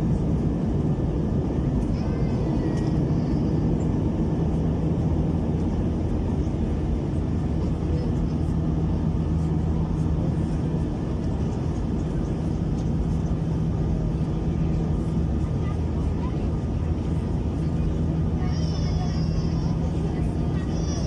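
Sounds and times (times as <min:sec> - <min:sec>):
airplane cabin engine rumble: 0:00.0 - 0:21.0
constant low hum: 0:00.0 - 0:21.0.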